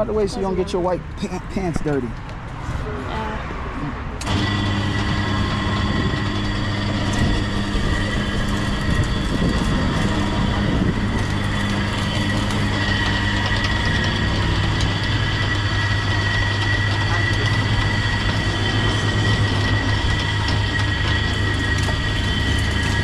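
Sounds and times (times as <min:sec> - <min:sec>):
motorised juice press humming: 0:04.2 - 0:23.0.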